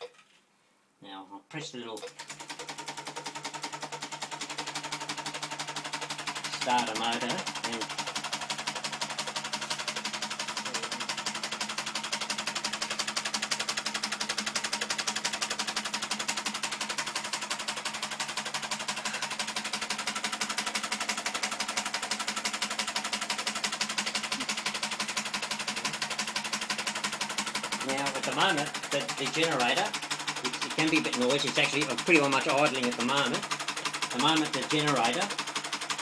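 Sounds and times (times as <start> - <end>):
motor-generator hum: 2.0 - 36.0
solenoid engine clatter: 2.0 - 36.0.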